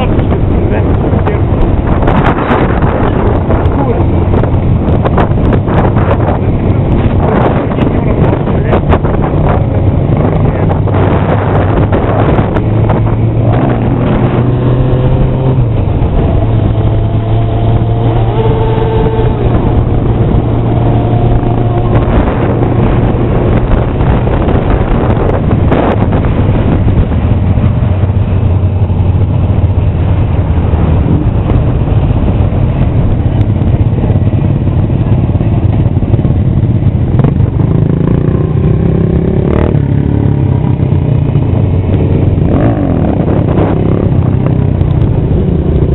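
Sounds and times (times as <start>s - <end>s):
motorcycle engine drone: 0.0s - 45.9s
motorcycles revving: 0.0s - 45.9s.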